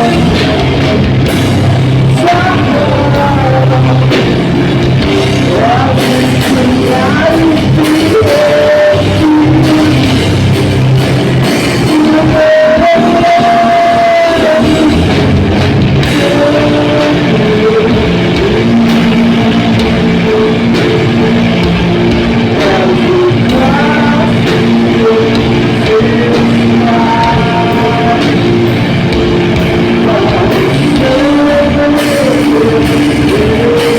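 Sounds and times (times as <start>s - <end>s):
metal band playing live: 0.0s - 33.9s
yelled vocals: 0.0s - 33.9s.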